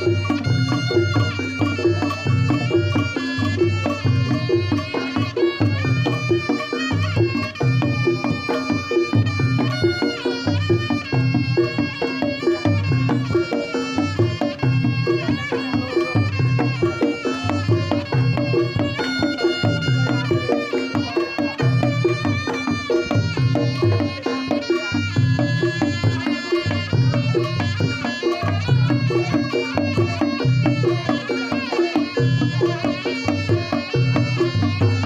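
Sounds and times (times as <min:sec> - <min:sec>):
hand drumming: 0:00.0 - 0:35.0
reedy wind instrument melody: 0:00.0 - 0:35.0.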